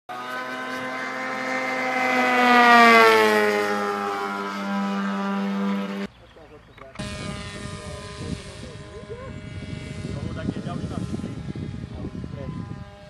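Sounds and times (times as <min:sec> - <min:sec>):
model aircraft motor passing: 0:00.1 - 0:06.1, 0:06.9 - 0:13.0.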